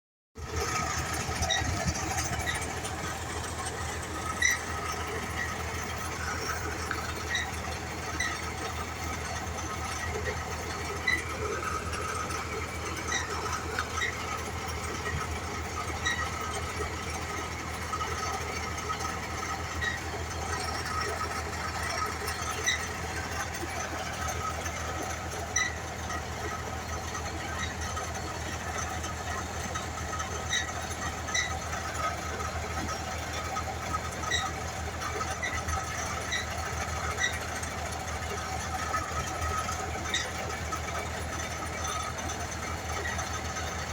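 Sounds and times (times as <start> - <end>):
drilling rig drone: 0.4 - 43.9.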